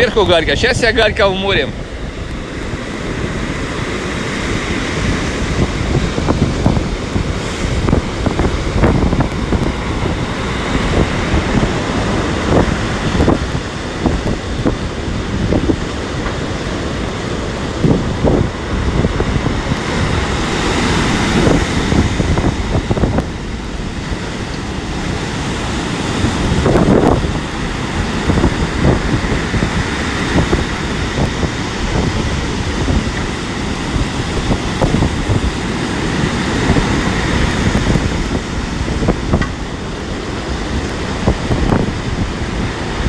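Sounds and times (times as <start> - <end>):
heavy surf breaking: 0.0 - 43.0
wind buffeting microphone: 0.0 - 43.0.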